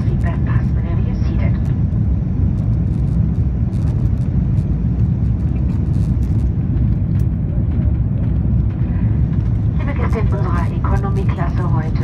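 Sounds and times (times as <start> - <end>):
airplane cabin engine noise: 0.0 - 12.0.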